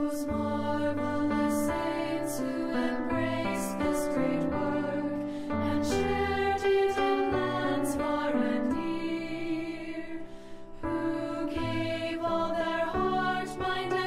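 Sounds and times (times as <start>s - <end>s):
slow gentle background music: 0.0s - 14.0s.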